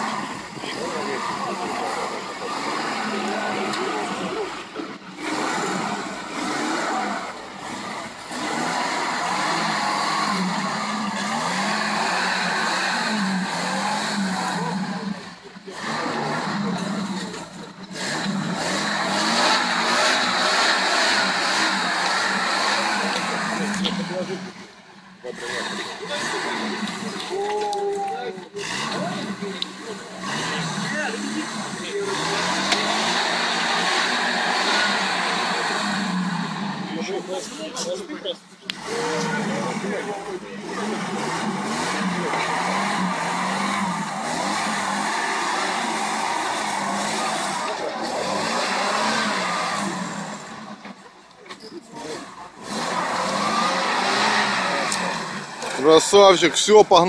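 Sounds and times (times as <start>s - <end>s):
engine revving hard: 0.0s - 57.0s
tyres churning in mud: 0.0s - 57.0s.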